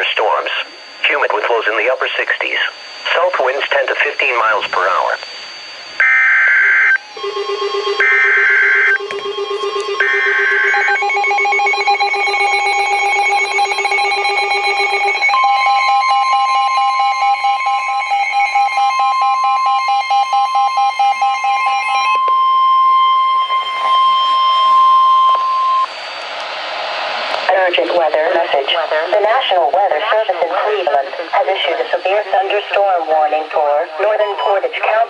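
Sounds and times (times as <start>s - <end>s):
screeching data tones: 0.0s - 27.8s, 28.4s - 35.0s
rapid electronic alarm beeping: 0.0s - 35.0s
steady warning alarm tone: 0.0s - 35.0s.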